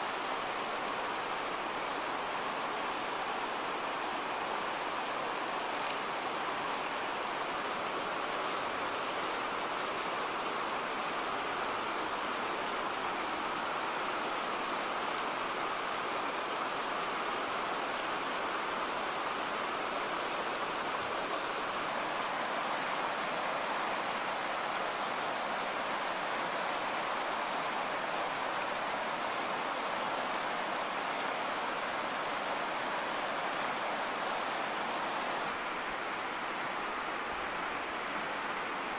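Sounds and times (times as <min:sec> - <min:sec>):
high-pitched insect drone: 0:00.0 - 0:38.9
river water flowing: 0:00.0 - 0:38.9.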